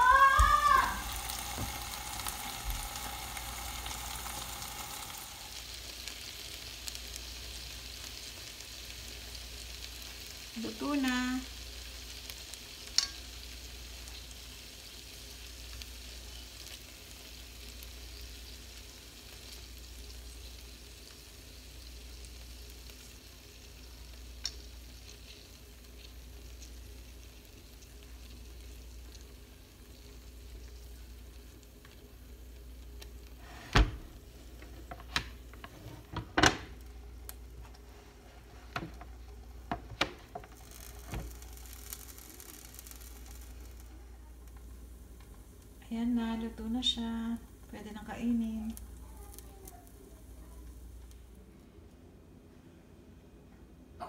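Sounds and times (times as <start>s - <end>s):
chicken sizzling on grill: 0.0s - 51.8s.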